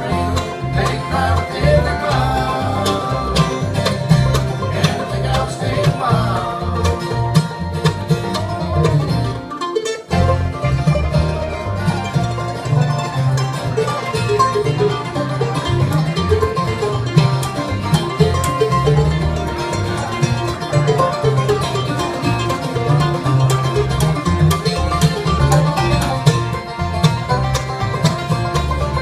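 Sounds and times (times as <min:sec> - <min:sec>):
bluegrass band playing: 0:00.0 - 0:29.0.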